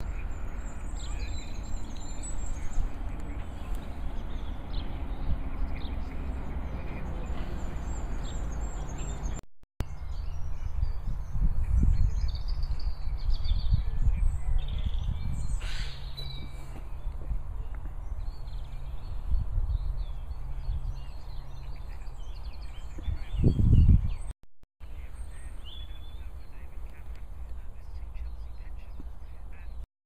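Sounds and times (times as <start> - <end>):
wind rumble on microphone: 0.0 - 24.3
songbirds chirping: 0.0 - 29.9.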